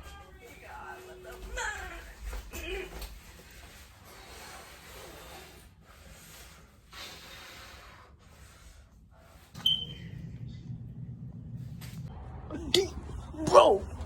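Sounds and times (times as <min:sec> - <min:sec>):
steady low hum: 0:01.2 - 0:14.0.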